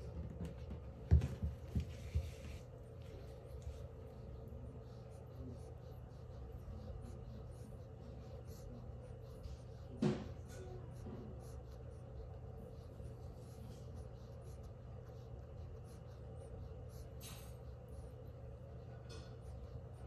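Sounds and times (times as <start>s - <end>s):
steady low hum: 0.0s - 20.0s
tortoise claws scratching on towel: 0.0s - 20.0s.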